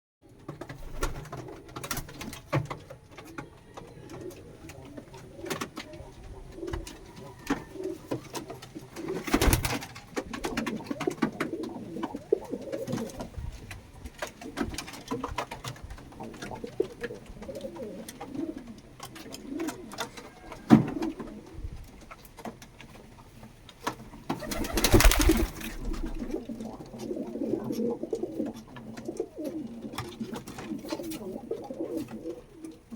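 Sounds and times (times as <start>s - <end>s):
pigeons cooing: 0.5s - 22.2s, 24.2s - 32.9s.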